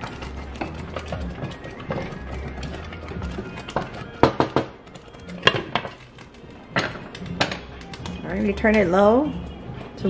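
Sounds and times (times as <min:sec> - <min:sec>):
wooden spatula stirring: 0:00.0 - 0:10.0.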